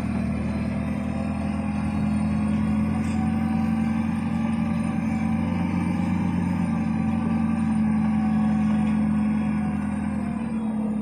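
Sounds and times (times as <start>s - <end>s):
forklift engine running: 0.0s - 11.0s.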